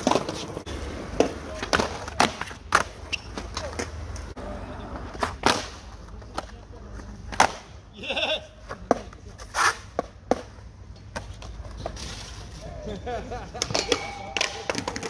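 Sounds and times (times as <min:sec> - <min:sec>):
skateboard wheels rolling: 0:00.0 - 0:07.7, 0:08.5 - 0:13.0
skateboards clacking: 0:00.0 - 0:07.8, 0:08.6 - 0:15.0.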